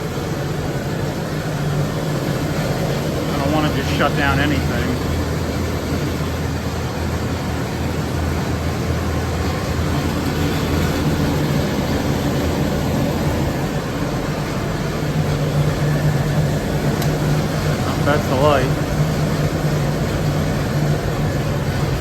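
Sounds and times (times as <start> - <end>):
blower hum: 0.0 - 22.0
oil burner combustion rumble: 0.0 - 22.0.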